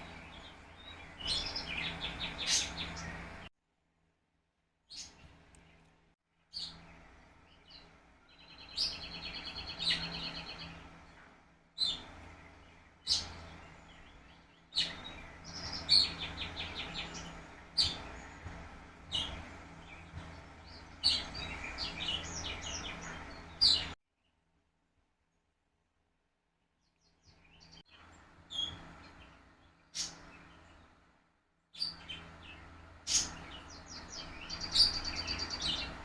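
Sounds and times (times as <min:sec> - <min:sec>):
songbirds chirping: 0:00.0 - 0:03.5, 0:04.8 - 0:24.4, 0:26.6 - 0:36.0.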